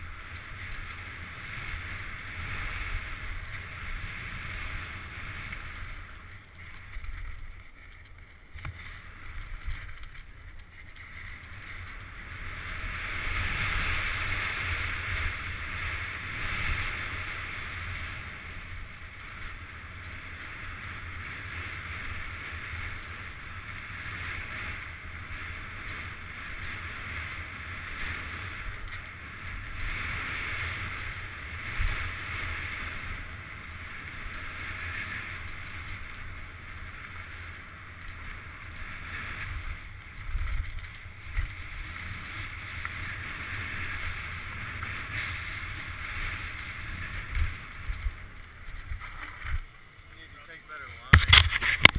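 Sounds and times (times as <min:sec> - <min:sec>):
bike rattles: 0:00.0 - 0:51.9
low tyre rumble: 0:00.0 - 0:51.9
wind rushing over camera: 0:00.0 - 0:51.9.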